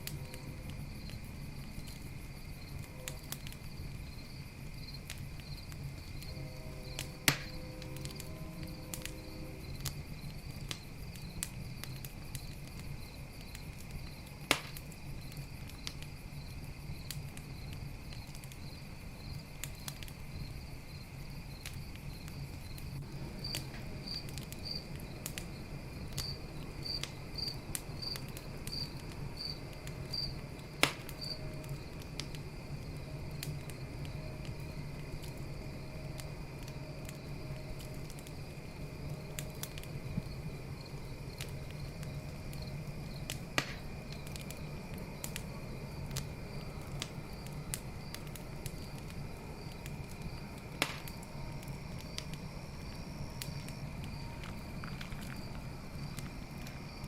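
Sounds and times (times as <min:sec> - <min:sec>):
campfire crackling and popping: 0:00.0 - 0:57.0
crickets and night insects: 0:00.0 - 0:57.0.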